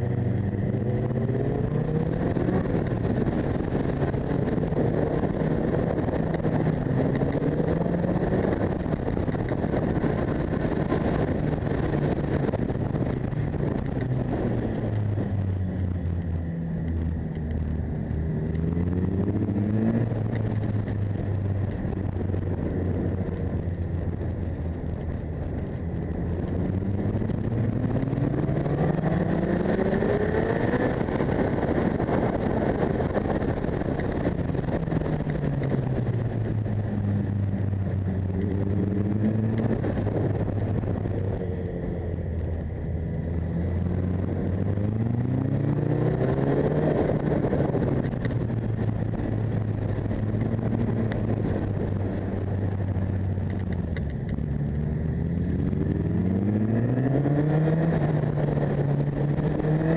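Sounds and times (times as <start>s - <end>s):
motorcycle engine accelerating: 0.0s - 59.9s
wind noise on microphone: 0.0s - 59.9s.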